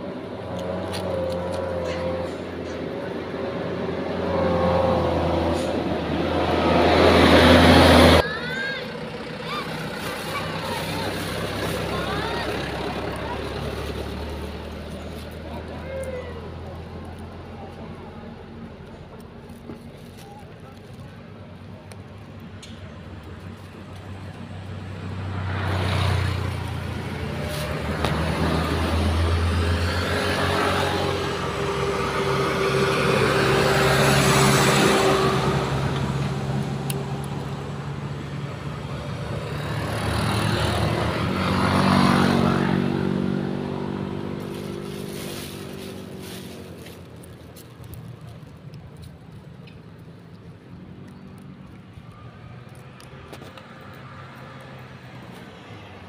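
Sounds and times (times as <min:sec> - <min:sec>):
vehicles passing on road: 0:00.0 - 0:56.0.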